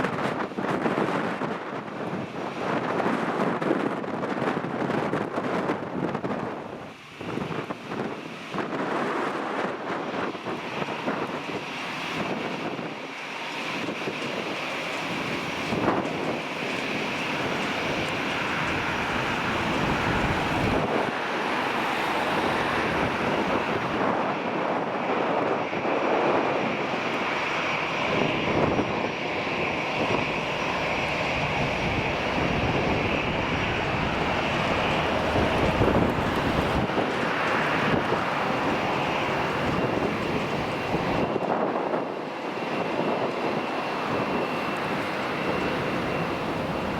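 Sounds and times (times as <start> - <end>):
airliner engines running: 0.0 - 46.9
wind buffeting microphone: 0.0 - 46.9.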